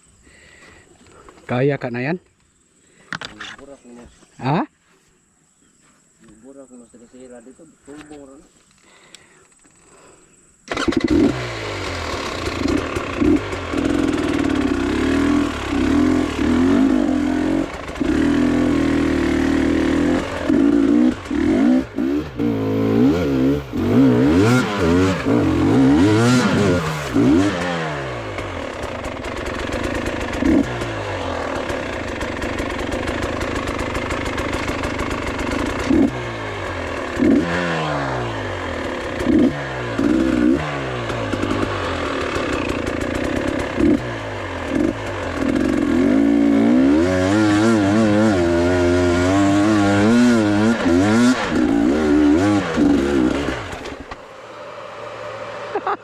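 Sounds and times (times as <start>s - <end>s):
motorcycle engine revving: 10.7s - 56.0s.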